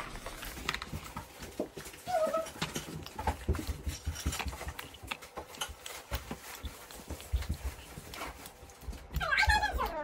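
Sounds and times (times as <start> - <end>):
child chewing candy noisily: 0.0 - 10.0.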